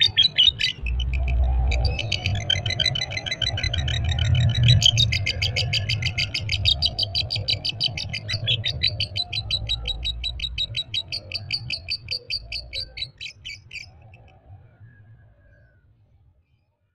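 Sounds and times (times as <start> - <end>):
lovebird chattering trill: 0.0 - 14.0.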